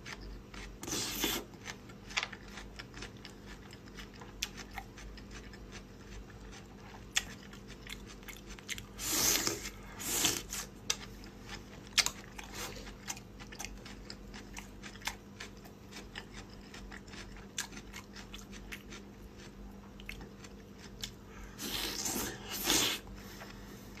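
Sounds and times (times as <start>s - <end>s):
chewing with wet mouth clicks: 0.0s - 9.0s, 10.8s - 21.2s
noisy biting and chewing: 0.0s - 23.1s.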